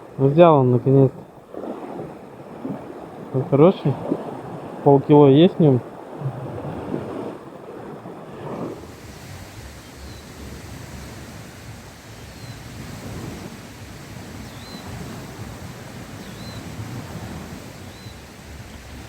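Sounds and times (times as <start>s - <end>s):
strong wind buffeting microphone: 0.0s - 19.0s
waves splashing on shore: 0.0s - 19.0s.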